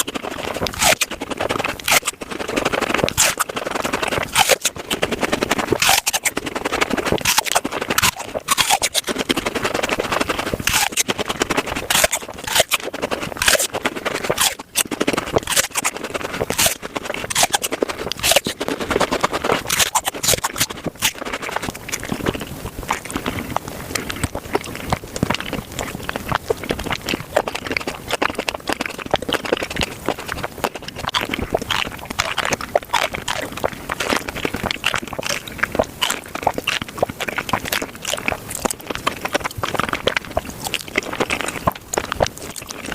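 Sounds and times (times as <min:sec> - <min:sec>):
fruit being bitten and chewed: 0:00.0 - 0:42.9.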